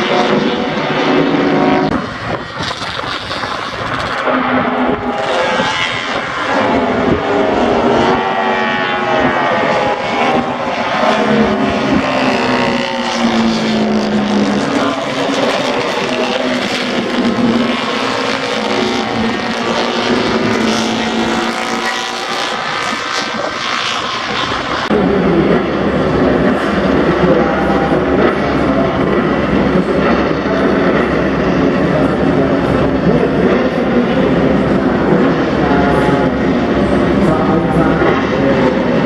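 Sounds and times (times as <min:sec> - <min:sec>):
deeper louder engine: 0:00.0 - 0:39.0
racing motorcycles passing by: 0:00.0 - 0:39.0.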